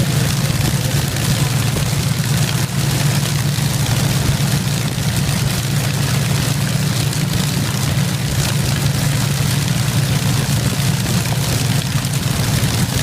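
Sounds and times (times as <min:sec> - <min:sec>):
aero engine droning: 0:00.0 - 0:13.0.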